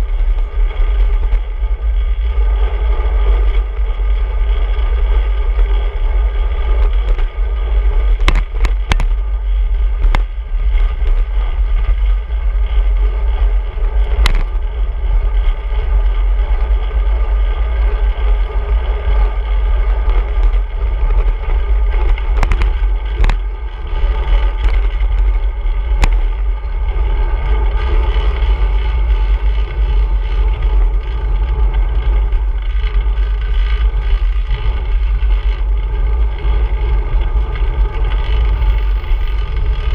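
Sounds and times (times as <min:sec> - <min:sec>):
road noise: 0:00.0 - 0:39.9
wind rumble: 0:00.0 - 0:39.9.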